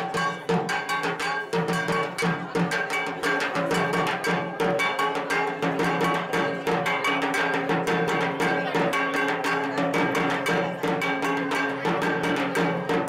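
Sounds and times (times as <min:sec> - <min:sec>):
barrel drum beaten with sticks: 0:00.0 - 0:13.0.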